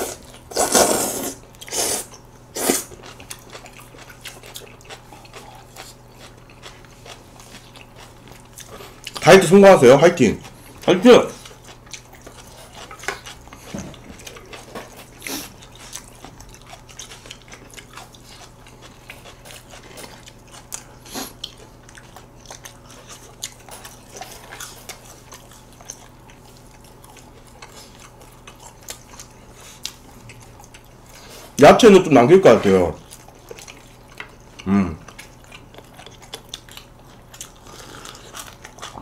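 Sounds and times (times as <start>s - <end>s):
chewing and crunching food: 0.0s - 39.0s.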